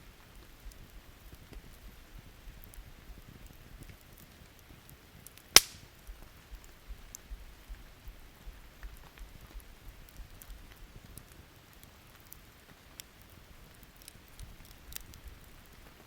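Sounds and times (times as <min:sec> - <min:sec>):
campfire crackling: 0:00.0 - 0:16.0
light rain: 0:00.0 - 0:16.0
burning wood popping loudly: 0:00.1 - 0:16.0.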